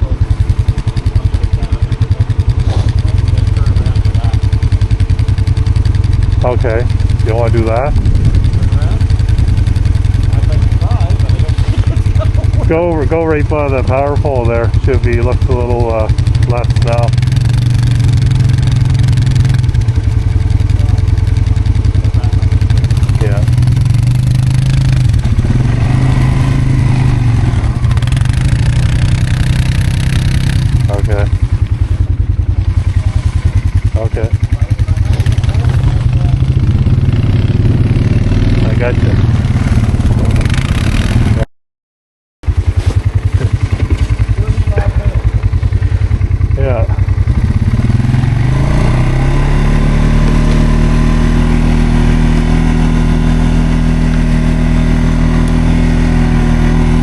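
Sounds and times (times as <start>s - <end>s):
atv engine idling: 0.0s - 41.4s, 42.4s - 57.0s.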